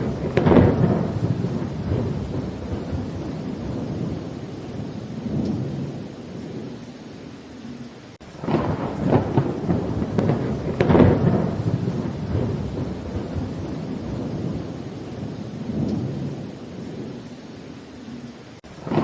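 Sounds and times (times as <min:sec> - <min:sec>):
thunder rumbling: 0:00.0 - 0:06.9, 0:07.6 - 0:19.0
steady rain: 0:00.0 - 0:19.0.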